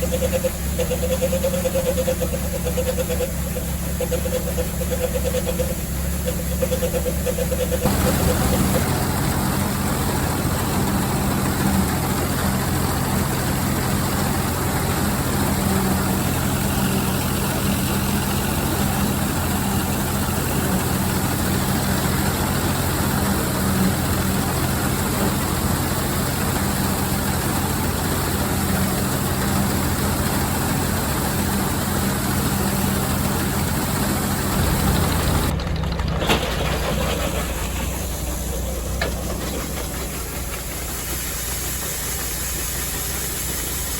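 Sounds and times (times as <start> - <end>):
combine cutting wheat: 0.0 - 43.9
tractor engine running: 0.0 - 43.9.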